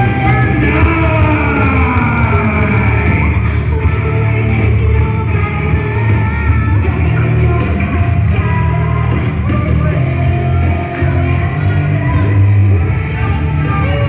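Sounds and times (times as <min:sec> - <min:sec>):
loud rock song with singing: 0:00.0 - 0:14.0.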